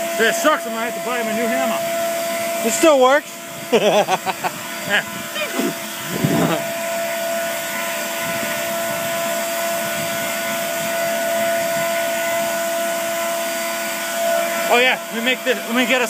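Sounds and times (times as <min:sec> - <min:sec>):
electric air blower whirring: 0:00.0 - 0:16.0.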